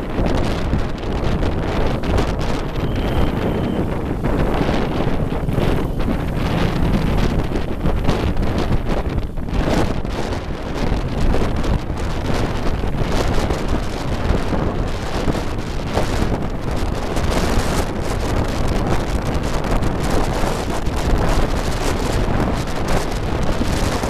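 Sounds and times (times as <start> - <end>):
traffic: 0.0 - 24.0
wind buffeting microphone: 0.0 - 24.0
motorbike engine: 0.4 - 24.0.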